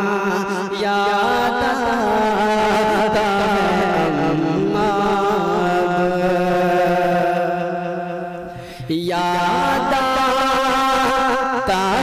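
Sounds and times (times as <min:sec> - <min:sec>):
man singing a long note: 0:00.0 - 0:12.0.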